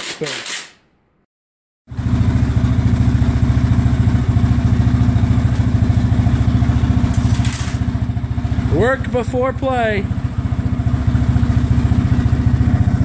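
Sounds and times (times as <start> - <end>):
four-stroke engine running: 1.9 - 13.0.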